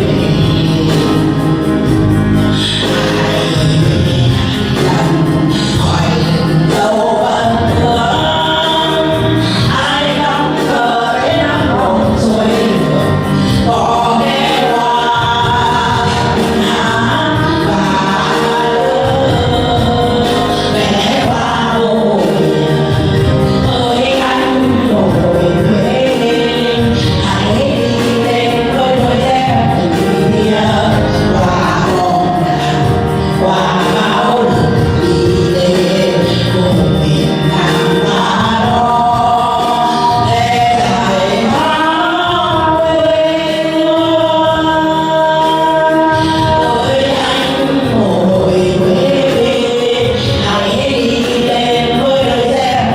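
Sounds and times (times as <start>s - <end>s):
backing music: 0.0s - 52.9s
group of people singing: 0.0s - 52.9s.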